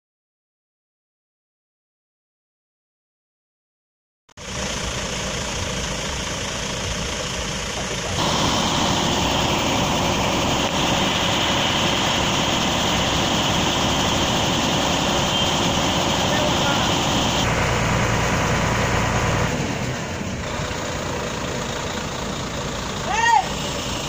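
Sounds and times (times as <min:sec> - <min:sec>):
diesel engines idling: 0:04.4 - 0:24.0.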